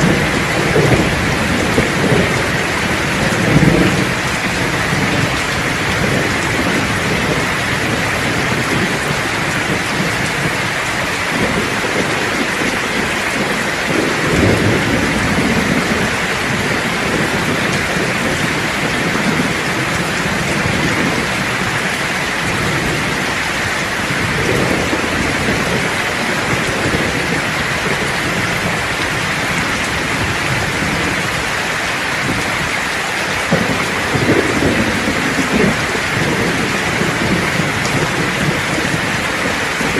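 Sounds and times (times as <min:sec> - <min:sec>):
steady rain falling: 0:00.0 - 0:39.9
thunder rolling: 0:00.0 - 0:39.9.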